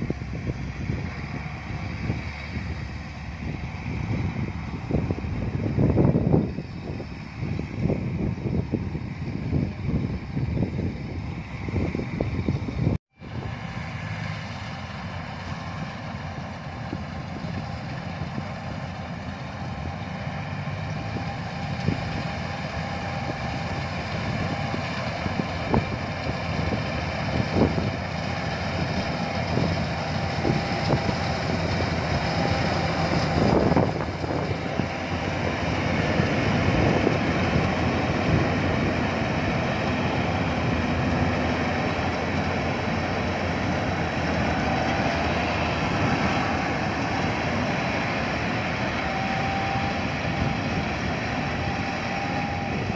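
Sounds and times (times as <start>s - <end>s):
combine harvester working: 0.0s - 52.9s.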